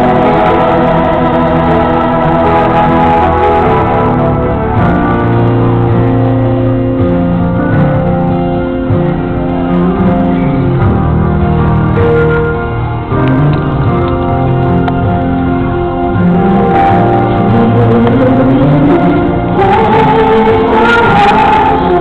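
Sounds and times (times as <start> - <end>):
organ-like keyboard chords: 0.0 - 22.0.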